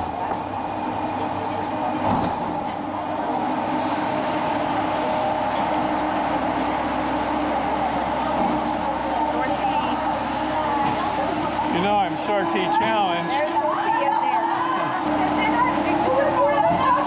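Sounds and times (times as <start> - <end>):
subway train rumble and whine: 0.0 - 17.0.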